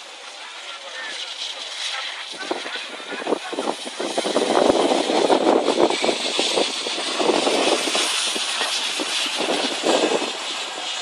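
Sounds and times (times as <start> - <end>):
floodwater rushing and churning: 0.0 - 11.0.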